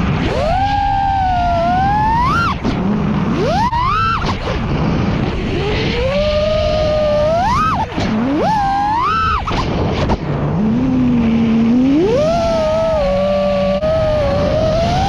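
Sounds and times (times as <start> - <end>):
drone motors whining: 0.0 - 15.0
wind rush: 0.0 - 15.0.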